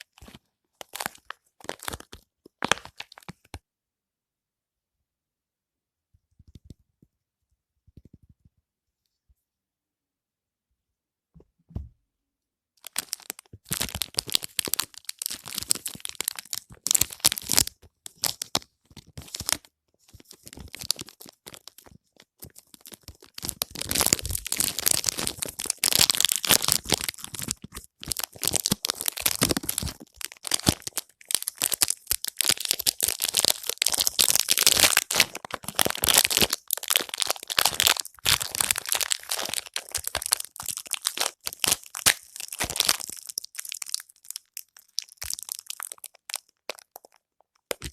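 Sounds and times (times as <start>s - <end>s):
wrapper crinkling: 0.0s - 3.5s, 12.8s - 47.9s.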